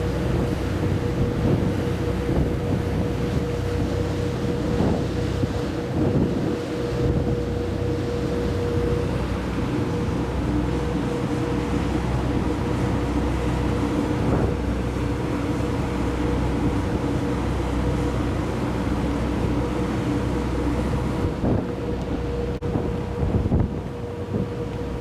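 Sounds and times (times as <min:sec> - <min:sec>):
ship engines droning: 0:00.0 - 0:25.0
water wash: 0:00.0 - 0:25.0
wind buffeting microphone: 0:00.0 - 0:25.0.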